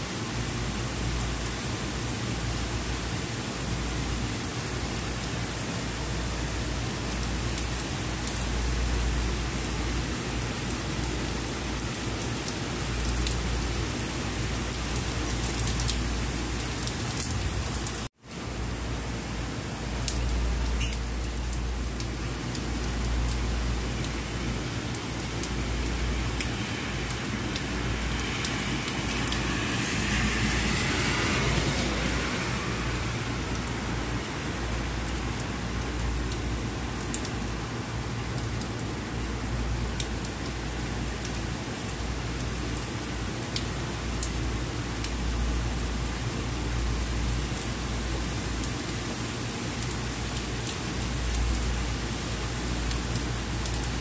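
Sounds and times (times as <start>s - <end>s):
heavy rain on street: 0.0s - 54.0s.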